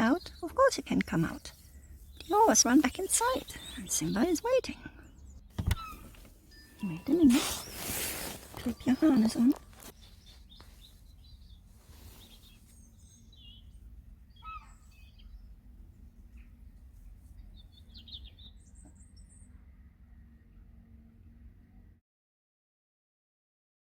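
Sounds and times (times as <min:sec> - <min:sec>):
small birds chirping: 0:00.0 - 0:21.8
low background rumble: 0:00.0 - 0:22.0.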